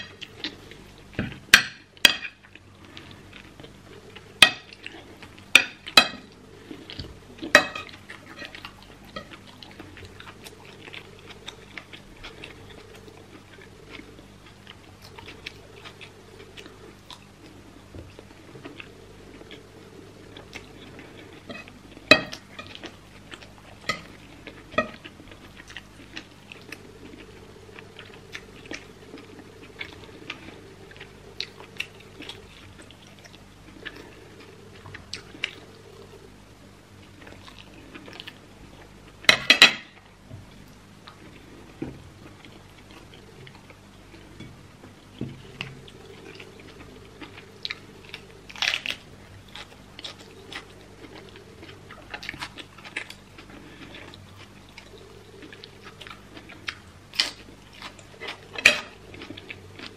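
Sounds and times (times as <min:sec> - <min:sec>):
steady low hum: 0:00.0 - 0:59.9
mouth chewing food: 0:02.2 - 0:36.4, 0:37.0 - 0:39.3, 0:39.9 - 0:59.9.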